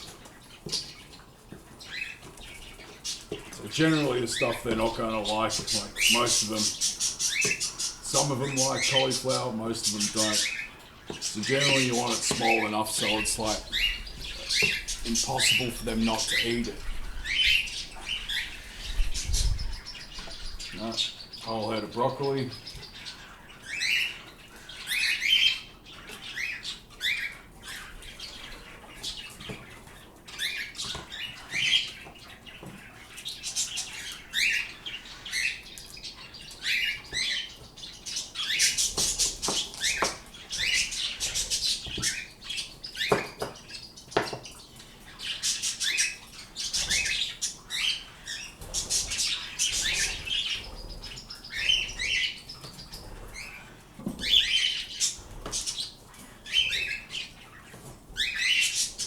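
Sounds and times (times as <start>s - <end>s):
pet birds chirping: 0.0s - 59.0s.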